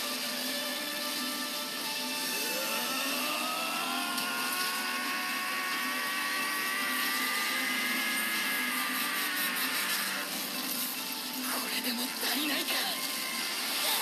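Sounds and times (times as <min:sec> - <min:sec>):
energy blast hiss with rising whine: 0:00.0 - 0:14.0.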